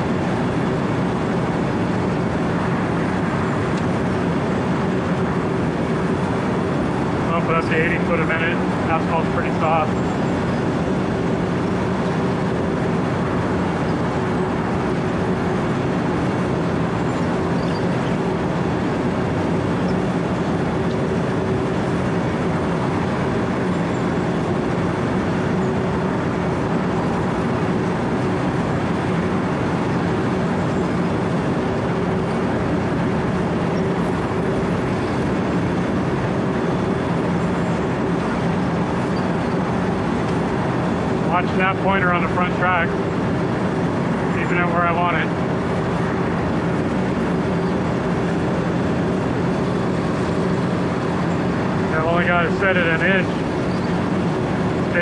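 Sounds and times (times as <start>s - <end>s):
constant hum: 0.0s - 55.0s
milling machine cutting asphalt: 0.0s - 55.0s.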